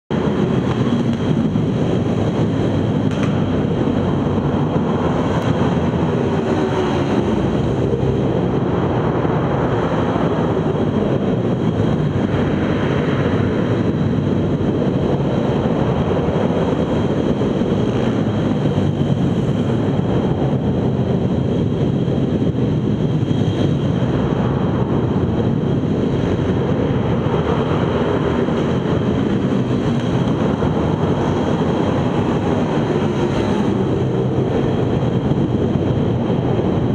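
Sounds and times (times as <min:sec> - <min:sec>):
pit bike engines running: 0:00.1 - 0:36.9.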